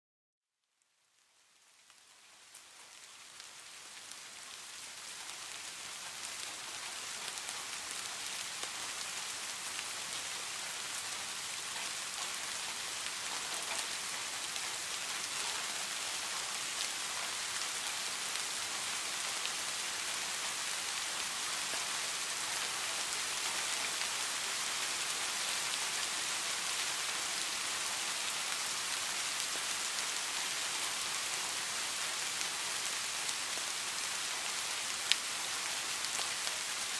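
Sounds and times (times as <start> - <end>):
steady rain falling: 0.6 - 36.9.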